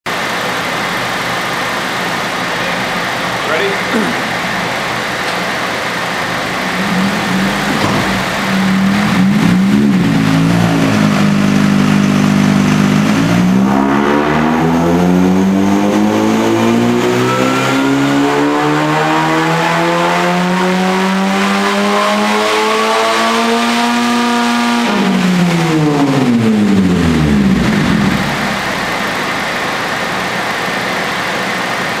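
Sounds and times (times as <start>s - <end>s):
car engine revving on a dyno: 0.1s - 32.0s.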